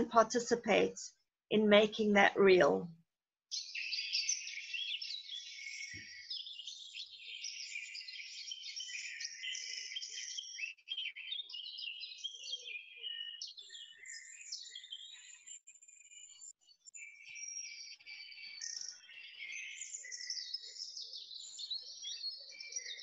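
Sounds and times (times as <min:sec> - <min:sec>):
birds singing: 0:00.0 - 0:02.9, 0:03.5 - 0:23.0.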